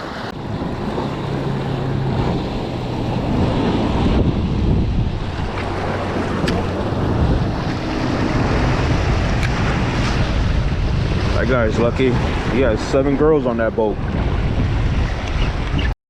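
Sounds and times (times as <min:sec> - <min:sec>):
motorboat engine drone: 0:00.0 - 0:15.9
waves and rushing water: 0:00.0 - 0:16.0
wind buffeting microphone: 0:00.0 - 0:16.0.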